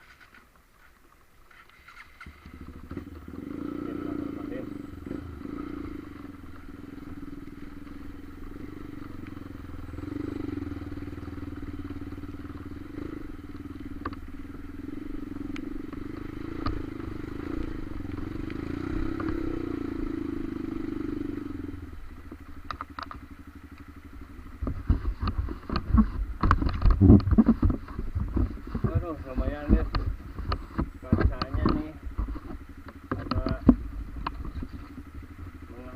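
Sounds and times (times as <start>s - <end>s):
motorcycle engine running: 1.5s - 35.9s.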